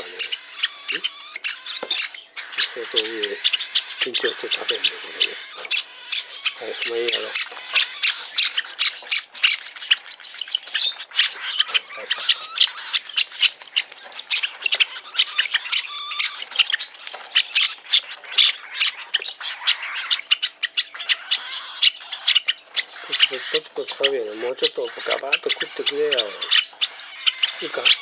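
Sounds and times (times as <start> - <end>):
cockatiel begging calls: 0.0 - 28.0.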